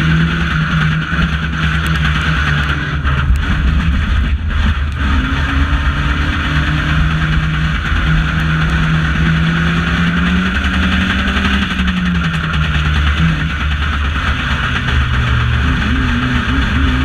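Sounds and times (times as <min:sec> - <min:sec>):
racing car engine revving: 0:00.0 - 0:17.0.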